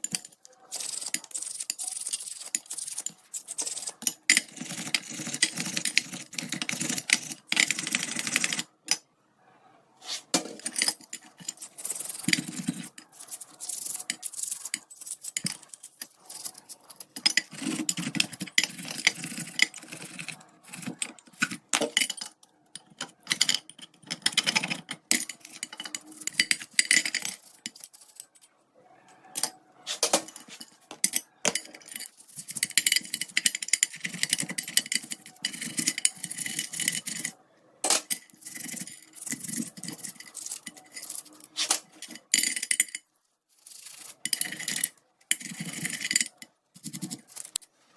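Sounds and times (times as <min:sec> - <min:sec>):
metal parts and tools clinking: 0:00.0 - 0:09.0, 0:10.4 - 0:28.5, 0:29.3 - 0:47.7.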